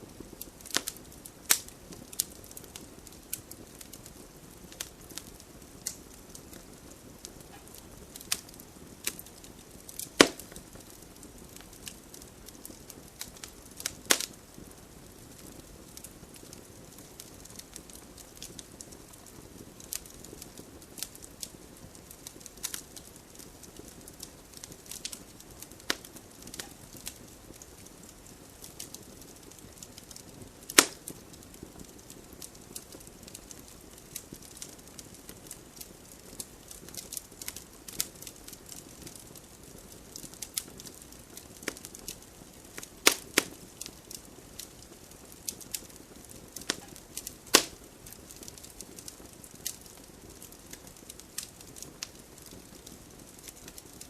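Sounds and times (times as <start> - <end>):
campfire crackles and pops: 0.0 - 54.0
low rumble of flames: 0.0 - 54.0.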